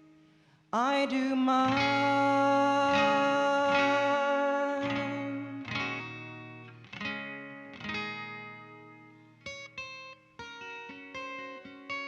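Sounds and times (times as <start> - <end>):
electric guitar picked notes: 1.5 - 12.0
electric guitar chords ringing: 1.6 - 12.0.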